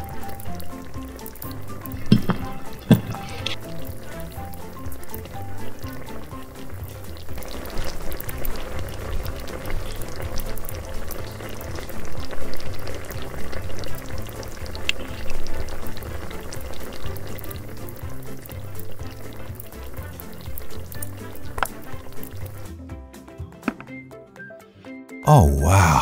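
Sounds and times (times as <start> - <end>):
sauce bubbling in a pan: 0.0 - 22.7
background music: 0.0 - 26.0.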